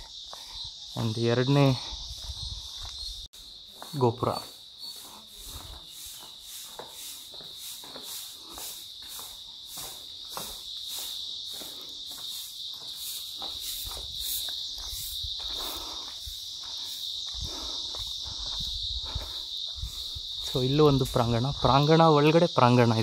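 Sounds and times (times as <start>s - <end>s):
footsteps: 0.0s - 21.8s
insect chirring: 0.0s - 23.0s.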